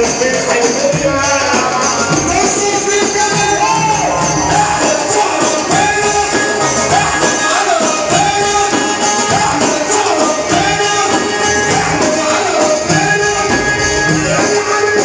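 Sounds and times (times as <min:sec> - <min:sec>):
melody with bending ornaments: 0:00.0 - 0:15.0
percussion beat: 0:00.0 - 0:15.0.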